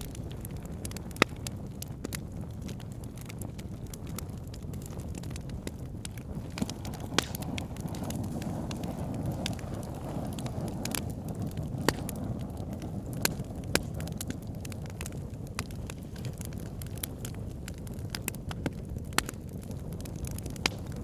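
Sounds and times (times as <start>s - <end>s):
fire rushing: 0.0s - 21.0s
wood fire crackling and popping: 0.0s - 21.0s.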